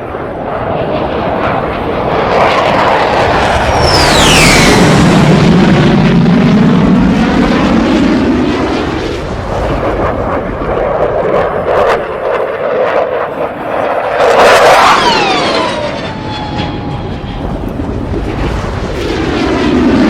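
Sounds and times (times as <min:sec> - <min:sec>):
aircraft rushing drone: 0:00.0 - 0:20.0.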